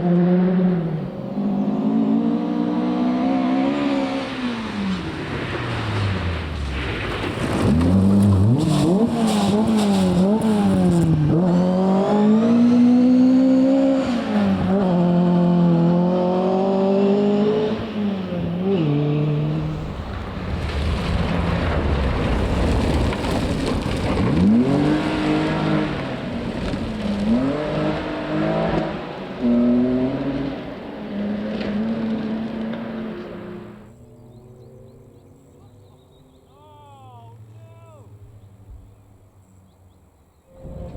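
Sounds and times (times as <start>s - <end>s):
rally car engine revving: 0.0s - 36.3s.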